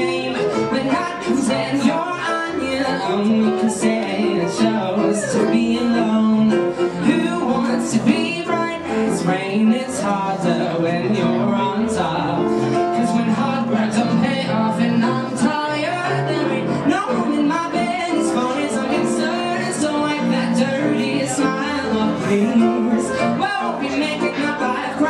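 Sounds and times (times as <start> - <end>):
live instrumental accompaniment: 0.0 - 25.0
man singing into a microphone: 0.0 - 25.0.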